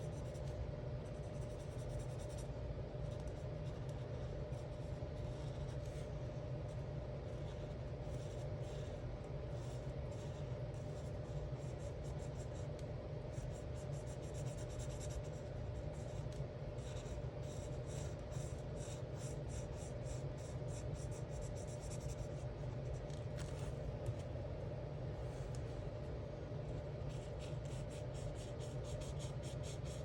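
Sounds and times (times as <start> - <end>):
steady low hum: 0.0 - 30.0
marker scratching on paper: 0.1 - 6.1, 7.3 - 24.2, 27.1 - 30.0.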